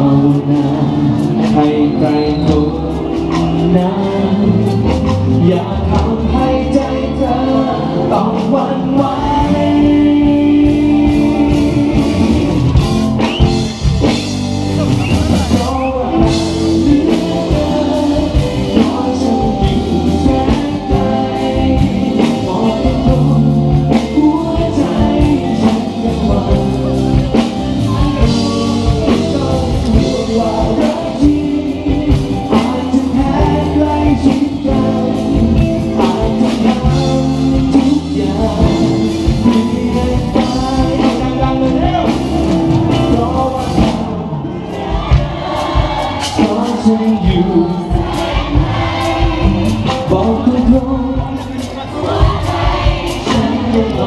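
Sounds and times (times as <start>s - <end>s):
bass guitar: 0.0s - 54.0s
drum kit beat: 0.0s - 54.0s
electric guitars: 0.0s - 54.0s
person singing: 0.0s - 54.0s.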